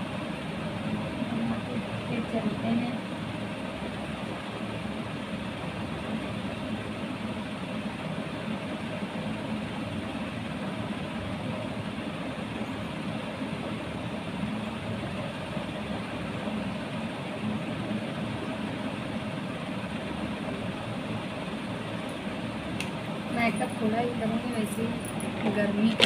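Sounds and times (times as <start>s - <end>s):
steady hum and hiss: 0.0s - 26.0s.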